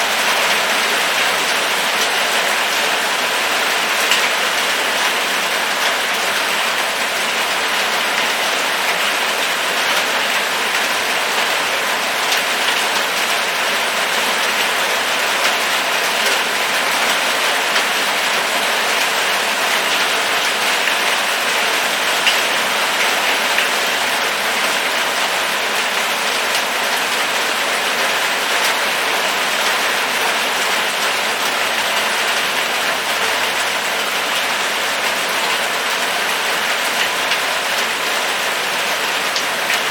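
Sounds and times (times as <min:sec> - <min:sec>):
steady rainfall: 0:00.0 - 0:39.9
raindrops ticking on a surface: 0:00.1 - 0:39.9.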